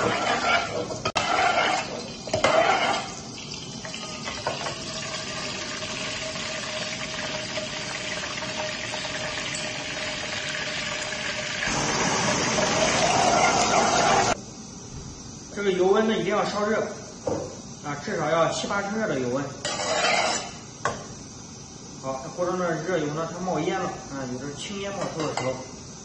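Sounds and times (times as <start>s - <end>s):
gas burner hissing: 0.0s - 26.0s.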